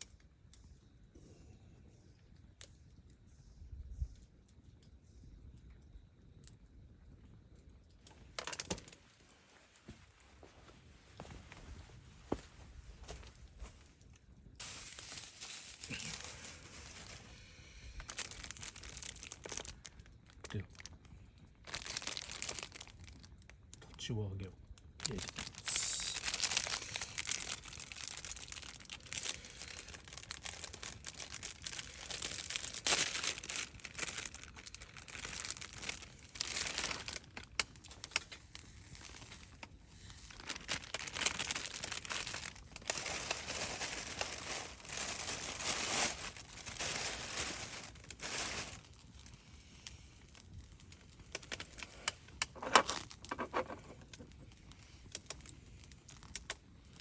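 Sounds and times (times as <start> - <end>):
crinkly wrapping rustling: 8.0 - 21.0, 21.6 - 23.9, 25.0 - 57.0.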